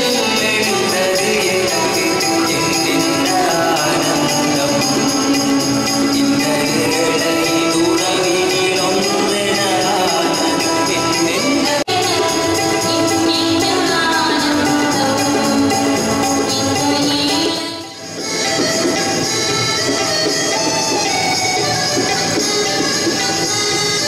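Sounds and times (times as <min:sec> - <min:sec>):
music with jingling percussion: 0:00.0 - 0:24.0.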